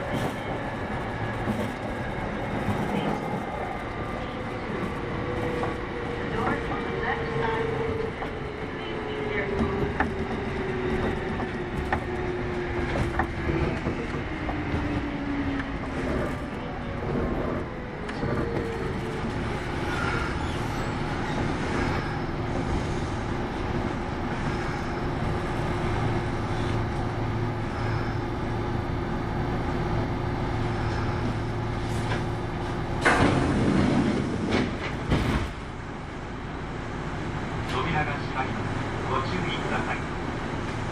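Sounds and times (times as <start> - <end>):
train wheel and track rumble: 0.0 - 40.9.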